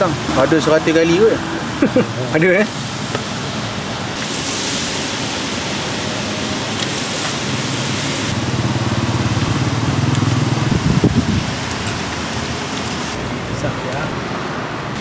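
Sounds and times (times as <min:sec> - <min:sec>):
frying in hot oil: 0:00.0 - 0:14.0.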